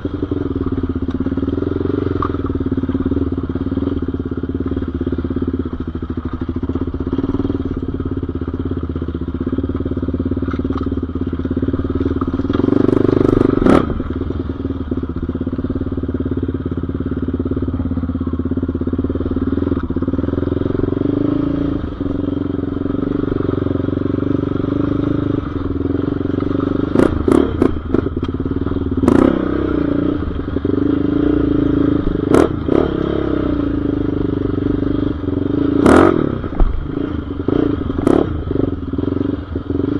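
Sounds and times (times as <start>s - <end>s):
off-road engine running: 0.0s - 39.9s.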